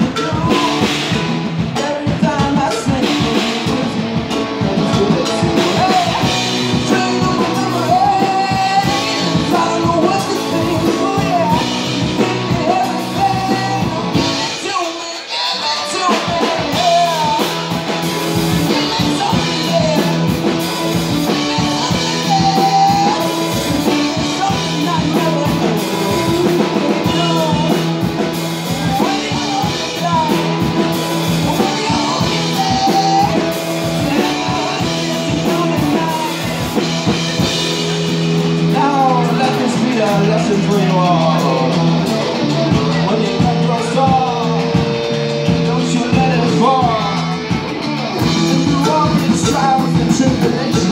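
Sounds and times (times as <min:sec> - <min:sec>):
lead singer: 0:00.0 - 0:50.9
live rock band playing: 0:00.0 - 0:50.9.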